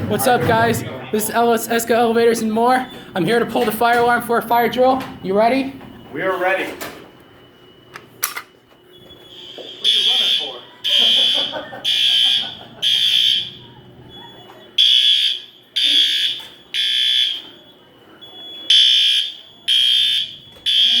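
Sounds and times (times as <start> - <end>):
fire alarm horns blasting: 1.8 - 21.0.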